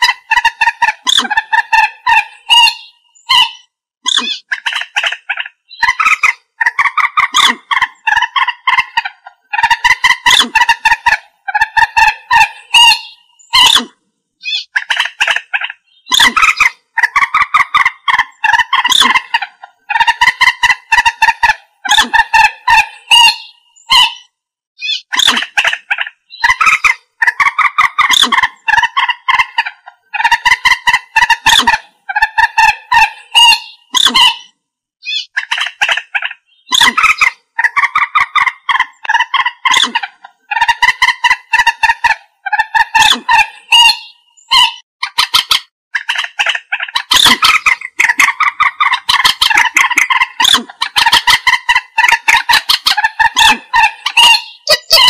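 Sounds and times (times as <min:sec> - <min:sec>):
moorhen calling: 0:00.0 - 0:55.0.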